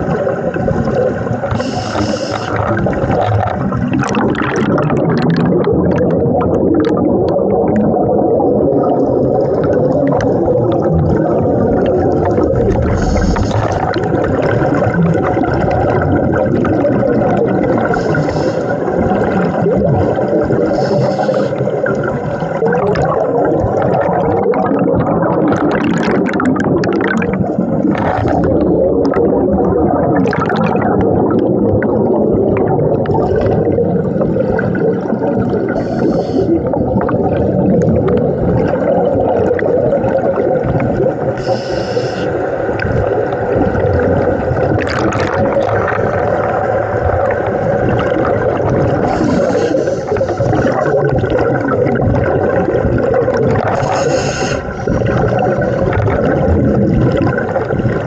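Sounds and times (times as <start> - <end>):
muffled underwater rumble: 0.0 - 58.0
regulator bubbles gurgling: 0.0 - 58.0.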